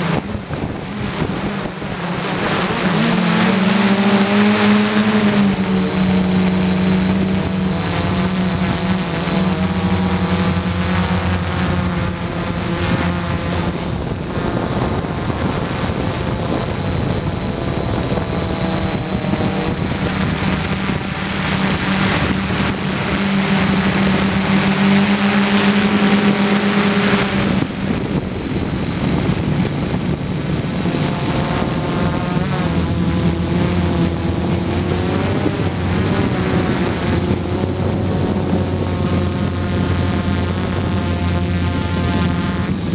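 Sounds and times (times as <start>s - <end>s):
quadcopter motors whining: 0.0s - 42.9s
rush of prop wash: 0.0s - 42.9s.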